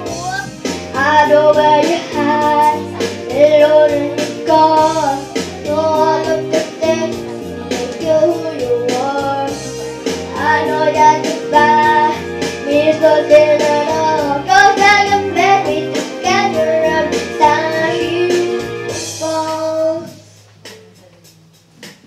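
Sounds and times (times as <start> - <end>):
boy singing a pop ballad: 0.0 - 20.4
instrumental accompaniment: 0.0 - 22.0.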